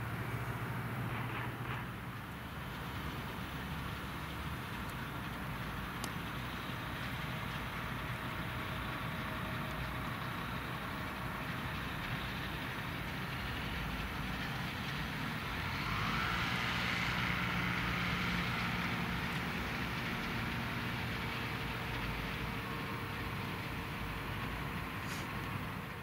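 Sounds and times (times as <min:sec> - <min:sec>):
light aircraft taxiing: 0:00.0 - 0:26.0.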